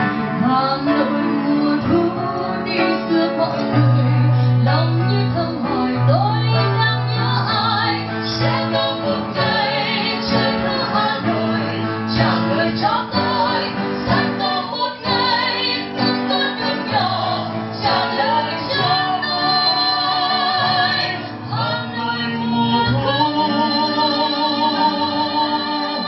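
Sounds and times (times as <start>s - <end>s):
acoustic guitar: 0.0s - 26.0s
woman and man singing: 0.0s - 26.0s.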